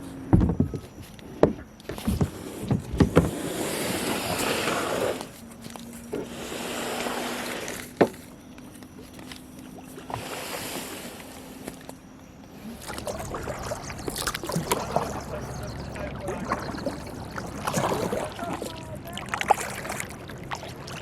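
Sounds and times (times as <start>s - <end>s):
faint steady hum: 0.0s - 21.0s
kayak paddle splashing: 2.1s - 8.2s, 9.2s - 21.0s.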